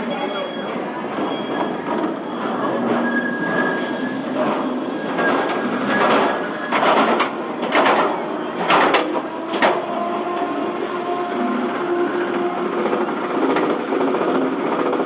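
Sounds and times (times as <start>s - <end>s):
roller coaster train on track: 0.0s - 15.0s.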